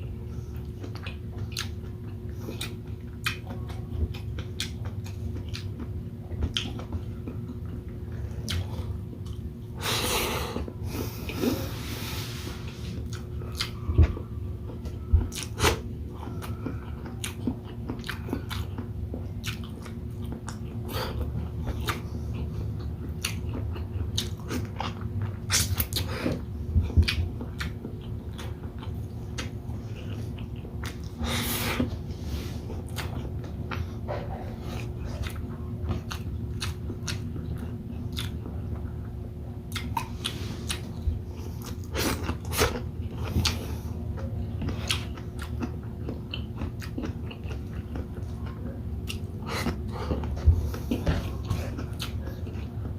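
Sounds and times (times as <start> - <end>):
steady low hum: 0.0 - 52.9
close-miked chewing and biting: 0.4 - 9.6, 12.7 - 52.9.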